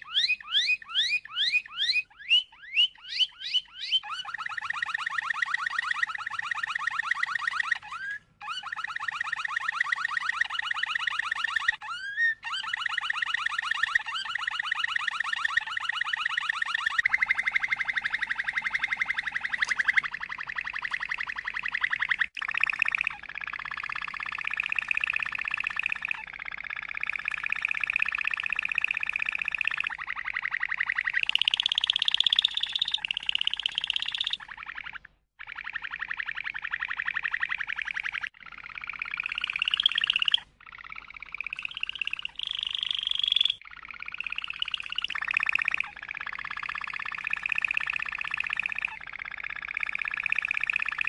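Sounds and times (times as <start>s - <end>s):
canary singing trills: 0.0s - 51.0s.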